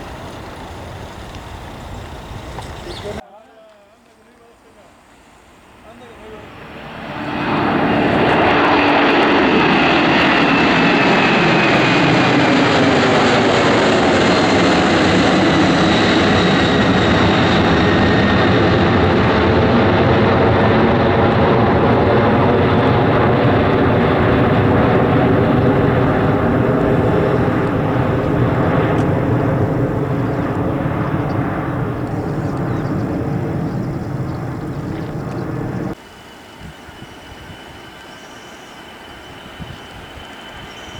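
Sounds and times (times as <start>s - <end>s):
airplane engines passing by: 0.0s - 3.2s, 4.1s - 40.9s.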